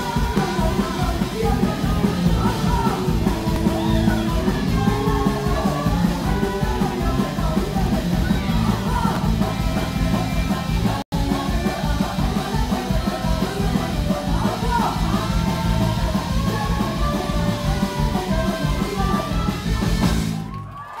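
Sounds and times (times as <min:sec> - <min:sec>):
sung vocals: 0:00.0 - 0:20.5
rock band playing live: 0:00.0 - 0:20.6.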